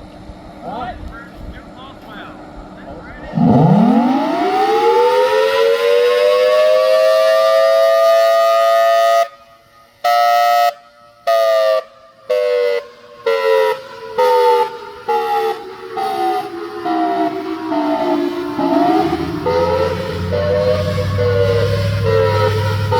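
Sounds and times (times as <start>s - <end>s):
warning siren pulsed wail: 3.3s - 22.9s.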